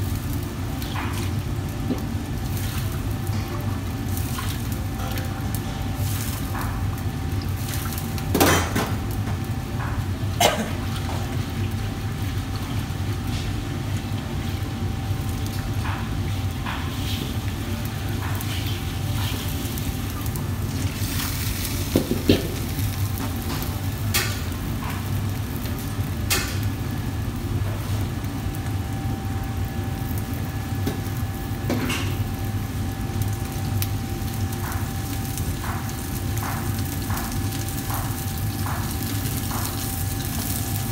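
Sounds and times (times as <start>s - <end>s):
wok burner rumbling: 0.0s - 40.9s.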